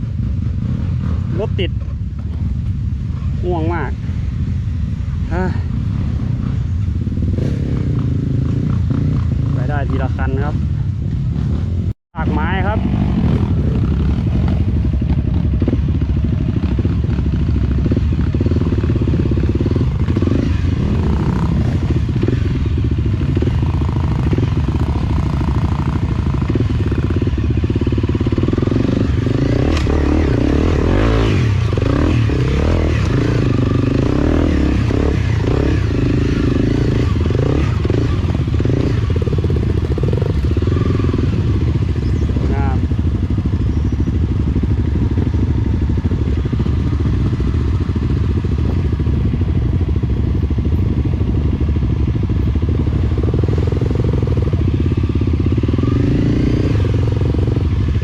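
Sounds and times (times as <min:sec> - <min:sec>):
motorcycle engine revving: 0:05.3 - 0:58.0.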